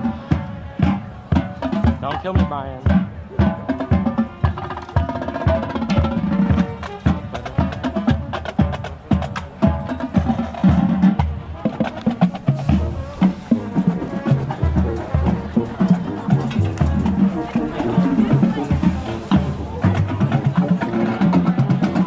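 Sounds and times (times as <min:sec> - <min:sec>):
drumline percussion: 0:00.0 - 0:22.0
wind instruments sustained notes: 0:00.0 - 0:22.0.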